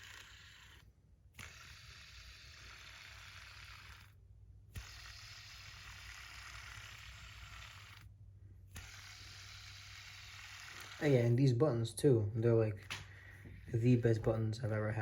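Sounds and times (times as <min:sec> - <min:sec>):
fidget spinner whirring: 0:00.0 - 0:15.0.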